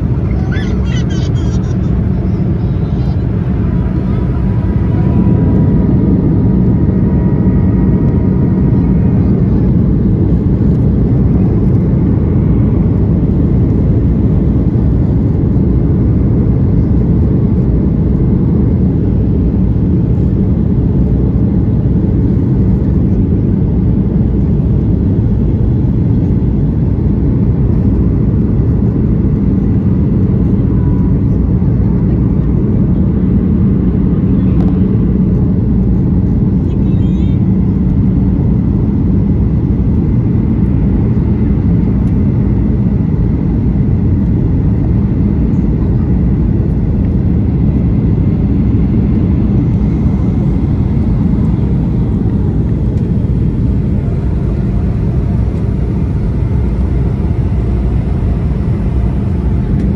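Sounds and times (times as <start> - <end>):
jet engines and airflow roaring: 0.0 - 59.9
low hum: 0.0 - 59.9.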